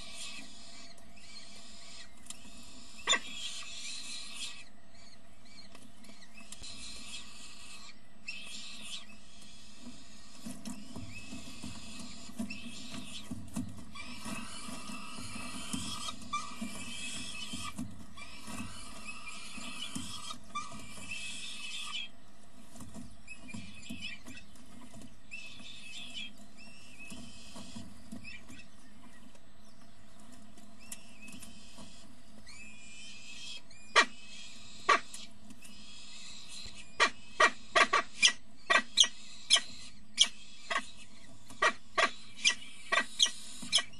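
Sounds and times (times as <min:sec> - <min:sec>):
falcon chicks cheeping and squealing: 0:00.0 - 0:43.9.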